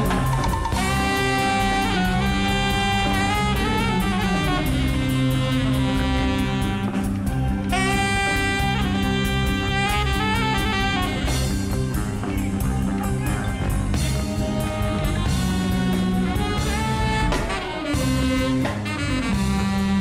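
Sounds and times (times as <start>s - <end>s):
bass: 0.0s - 20.0s
drum kit: 0.0s - 20.0s
electric guitar: 0.0s - 20.0s
hand percussion: 0.0s - 20.0s.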